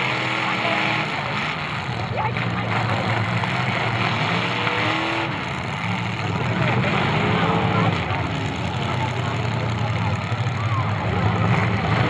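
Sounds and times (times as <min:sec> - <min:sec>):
car engines revving: 0:00.0 - 0:12.0
crowd voices: 0:00.0 - 0:12.0.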